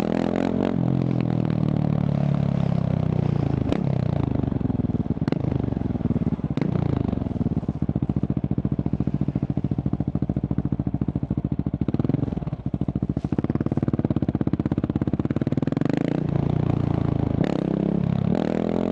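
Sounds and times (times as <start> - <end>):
motorcycle engine idling: 0.0 - 18.3.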